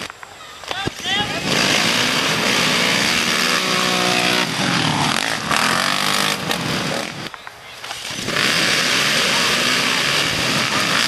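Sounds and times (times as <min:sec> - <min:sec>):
off-road engines revving: 0:00.0 - 0:11.0.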